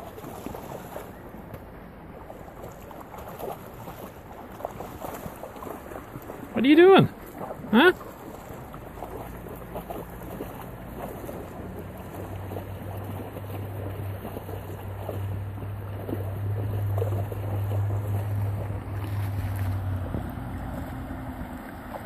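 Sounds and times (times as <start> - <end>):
flowing river: 0.0 - 22.0.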